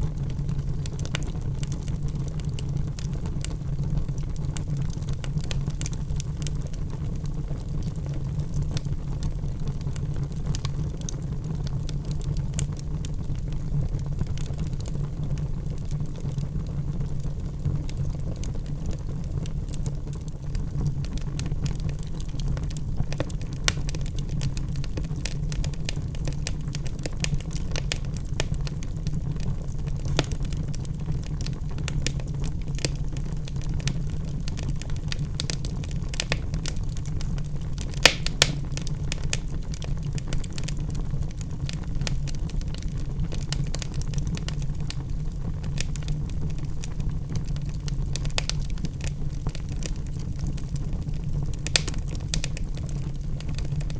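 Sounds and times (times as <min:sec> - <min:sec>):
fire flames rumbling: 0:00.0 - 0:53.9
logs crackling and popping: 0:00.0 - 0:53.9.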